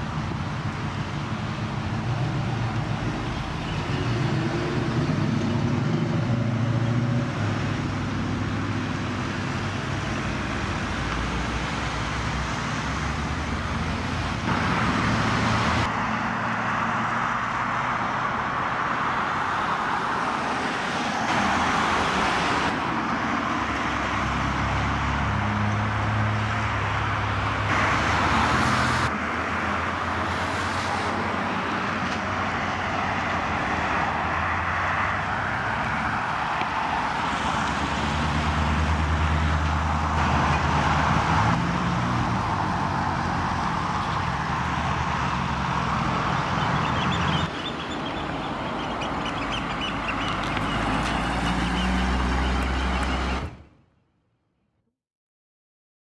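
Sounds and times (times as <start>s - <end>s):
cars driving past: 0.0s - 54.0s.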